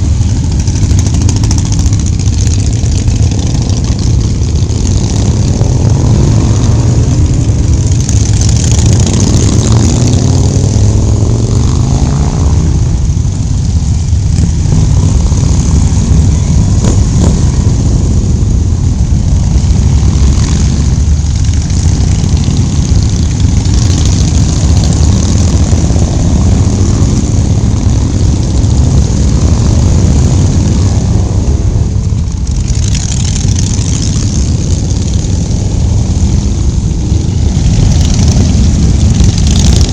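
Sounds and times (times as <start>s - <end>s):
motorcycle engines rumbling: 0.0s - 39.9s.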